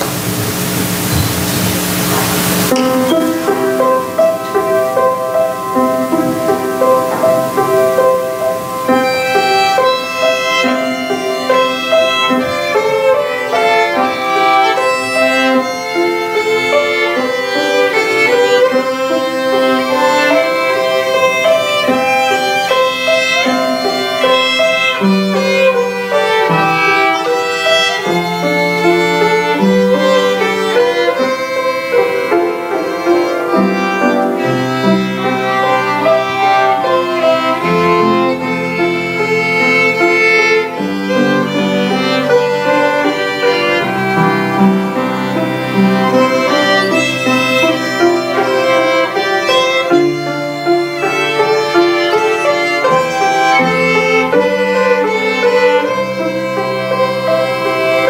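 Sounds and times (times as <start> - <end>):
low sustained accompanying notes: 0.0 - 52.0
violin duet: 2.1 - 58.0.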